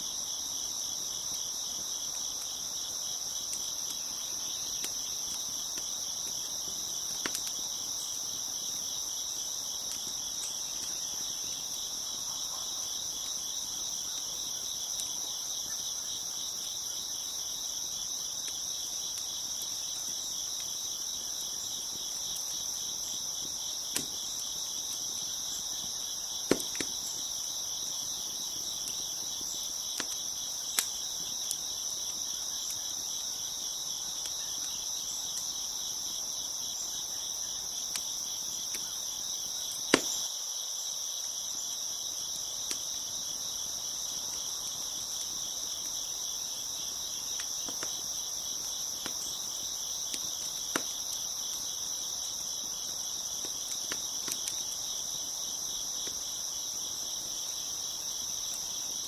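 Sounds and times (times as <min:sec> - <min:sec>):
crickets chirping: 0:00.0 - 0:59.0
wood fire crackling and popping: 0:00.1 - 0:36.2, 0:39.8 - 0:40.3, 0:42.2 - 0:59.0.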